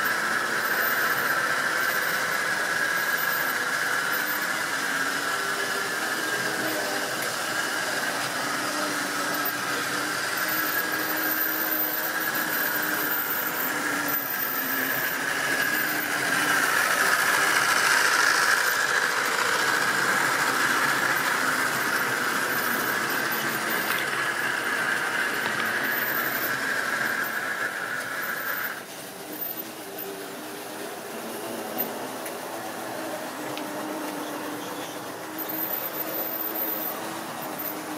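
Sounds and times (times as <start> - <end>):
model train motor whine: 0.0 - 37.9
wheels rattling on rail: 0.0 - 37.9.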